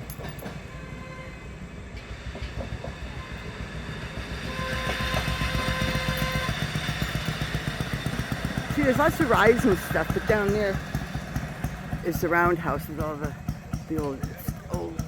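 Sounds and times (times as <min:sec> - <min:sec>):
rail car wheels rumbling and clicking: 0:00.0 - 0:15.0.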